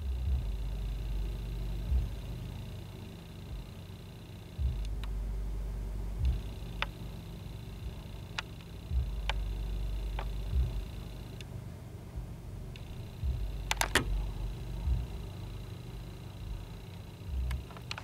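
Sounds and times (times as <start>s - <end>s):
car subwoofers playing bass music: 0.0s - 18.0s.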